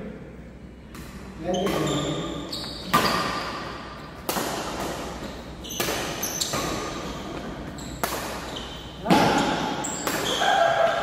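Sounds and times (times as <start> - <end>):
racket hitting shuttlecock: 0.9 - 11.0.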